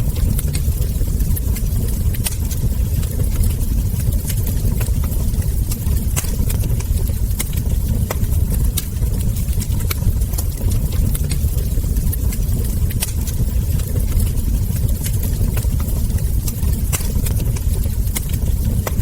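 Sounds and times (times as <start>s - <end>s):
low rumble of flames: 0.0s - 19.0s
wood fire popping and snapping: 0.0s - 19.0s.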